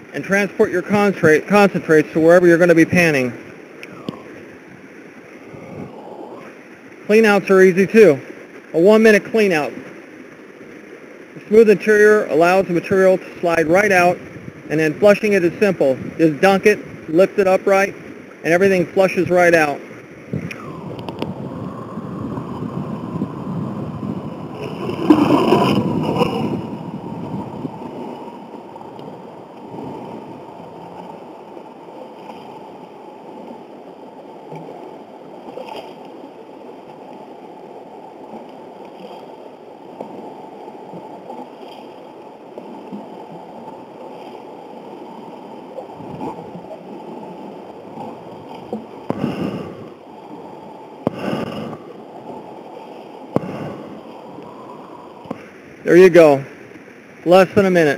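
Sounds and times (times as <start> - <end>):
running water: 0.0 - 57.9
water gurgling and splashing: 0.0 - 57.9.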